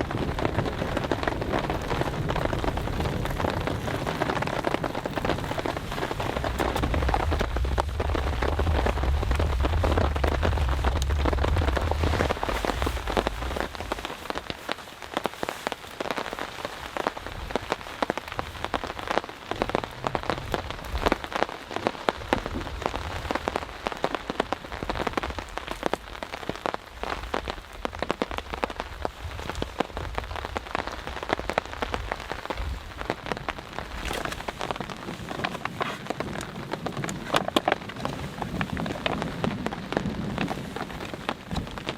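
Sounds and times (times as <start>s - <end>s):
heavy rain pattering: 0.0s - 41.9s
thunder rumbling: 0.0s - 41.9s.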